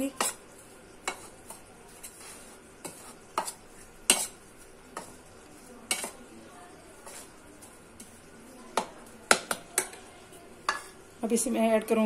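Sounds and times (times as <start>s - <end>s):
spoon stirring dry flour: 0.0s - 11.5s.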